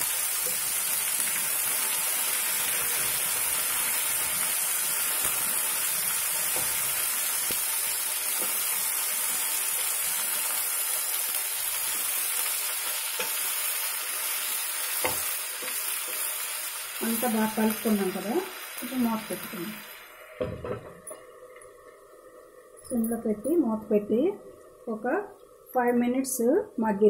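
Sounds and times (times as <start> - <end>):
food sizzling in oil: 0.0 - 26.5.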